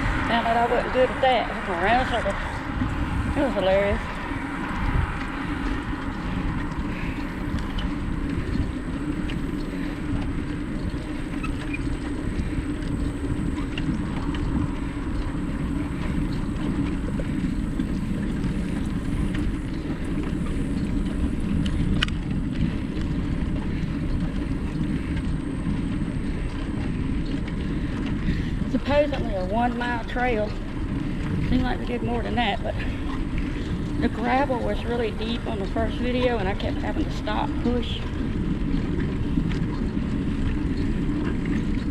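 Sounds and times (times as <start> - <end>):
bicycle tyres rolling: 0.0 - 41.9
wind on microphone: 0.0 - 41.9
small clicks and rattles: 1.9 - 41.9.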